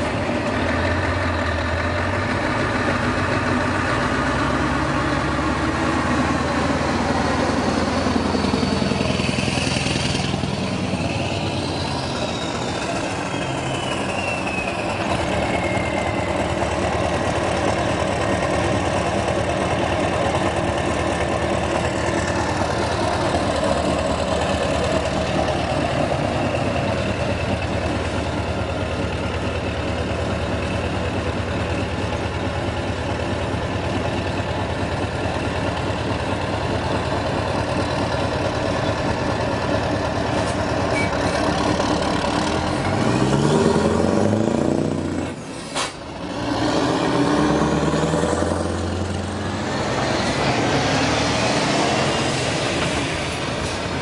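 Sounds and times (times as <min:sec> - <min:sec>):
diesel truck engine idling and revving: 0:00.0 - 0:54.0
heavy trucks driving by: 0:00.0 - 0:54.0.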